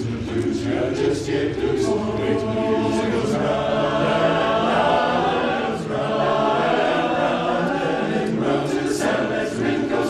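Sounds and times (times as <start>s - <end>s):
chorus singing a cappella: 0.0s - 10.0s.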